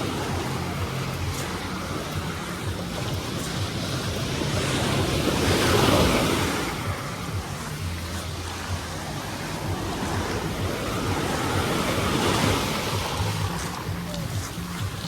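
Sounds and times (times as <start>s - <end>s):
sea waves washing on sand: 0.0s - 15.0s
wind buffeting microphone: 0.0s - 15.0s.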